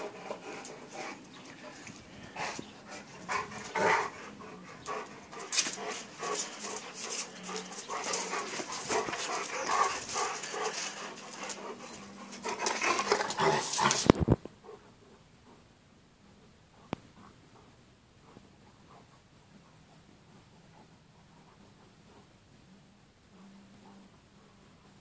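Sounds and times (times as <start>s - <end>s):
dogs panting and scuffling: 0.0s - 25.0s.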